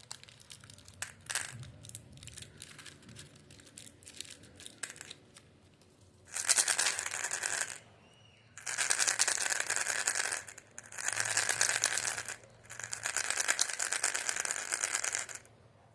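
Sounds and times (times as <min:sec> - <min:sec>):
candy packet crinkling and rattling: 0:00.0 - 0:07.8, 0:08.6 - 0:15.4.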